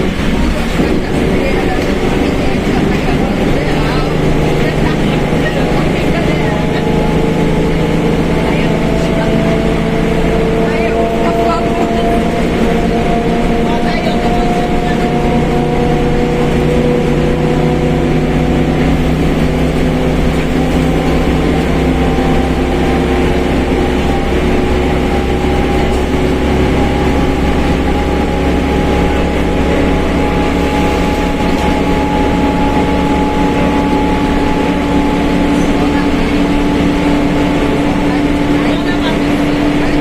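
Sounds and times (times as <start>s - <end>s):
bus engine drone: 0.0s - 40.0s
differential howl: 0.8s - 40.0s.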